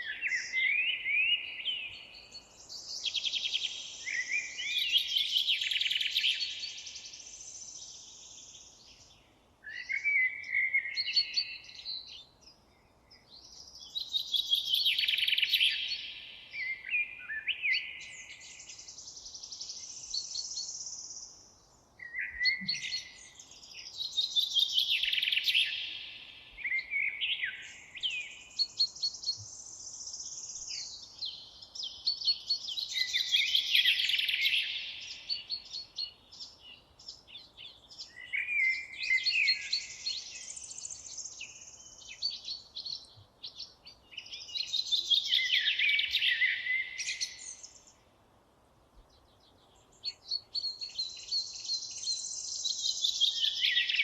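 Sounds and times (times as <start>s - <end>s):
faint bird chirps: 0.0s - 48.1s, 49.0s - 54.0s
songbirds singing: 0.0s - 54.0s.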